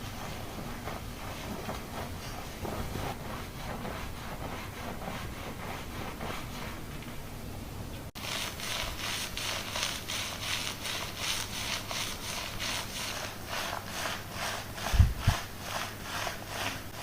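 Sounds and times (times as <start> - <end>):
fingers scrubbing hair: 0.0 - 6.9, 8.2 - 17.0.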